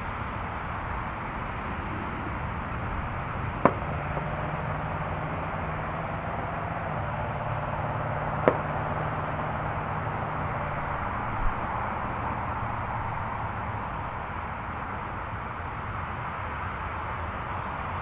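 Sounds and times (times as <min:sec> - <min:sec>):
distant jet engines rushing: 0:00.0 - 0:18.0.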